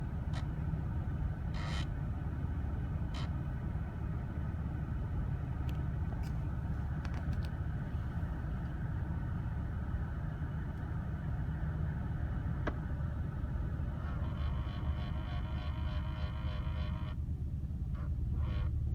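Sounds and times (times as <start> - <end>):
car engine rumble: 0.0 - 18.9.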